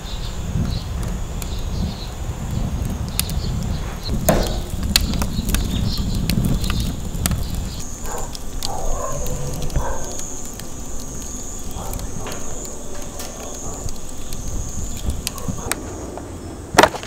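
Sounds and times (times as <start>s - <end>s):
low rumble of flame: 0.0s - 16.9s
firewood crackling and popping: 0.0s - 17.0s.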